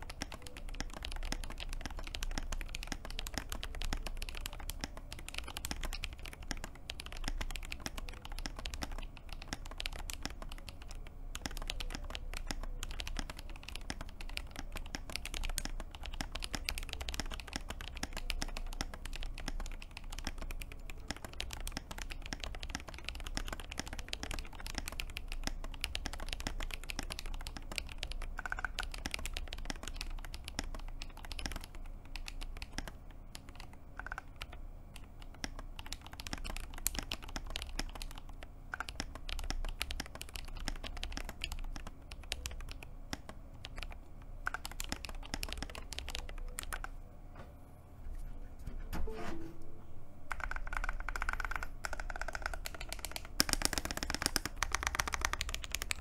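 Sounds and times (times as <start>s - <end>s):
fast mechanical keyboard typing: 0.0s - 47.0s, 50.3s - 56.0s.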